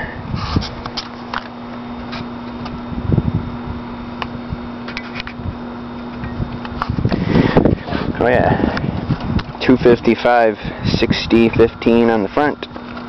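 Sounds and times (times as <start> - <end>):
air conditioning fan hum: 0.0 - 13.0.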